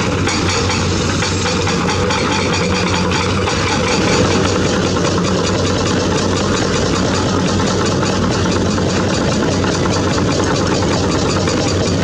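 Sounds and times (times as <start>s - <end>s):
excavator diesel engines droning: 0.0s - 12.0s.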